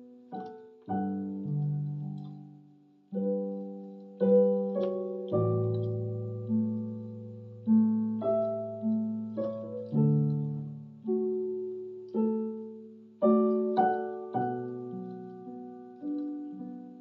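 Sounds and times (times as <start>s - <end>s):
electronic keyboard piano melody: 0.0s - 17.0s.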